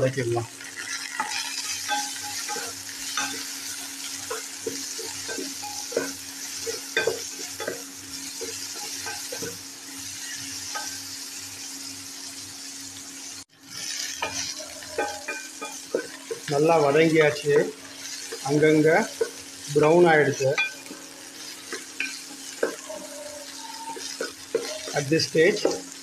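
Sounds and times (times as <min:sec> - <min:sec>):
okra sizzling in oil: 0:00.0 - 0:26.0.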